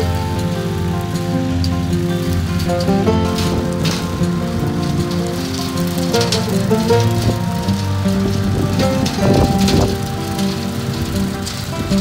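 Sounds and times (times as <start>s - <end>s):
background music of held notes: 0.0s - 12.0s
light crackling patter: 0.0s - 12.0s.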